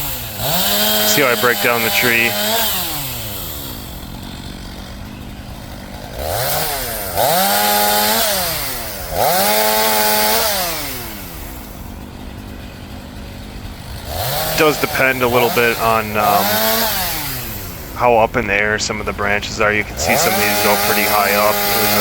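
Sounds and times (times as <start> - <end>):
chainsaw revving and idling: 0.0 - 22.0.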